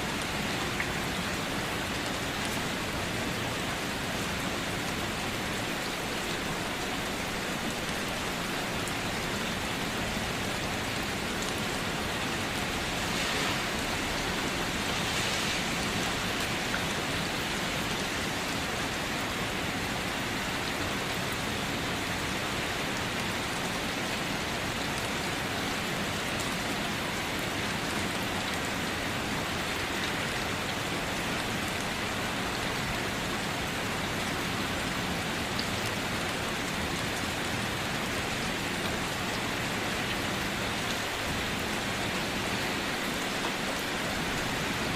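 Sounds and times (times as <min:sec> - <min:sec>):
rain on a surface: 0:00.0 - 0:44.9.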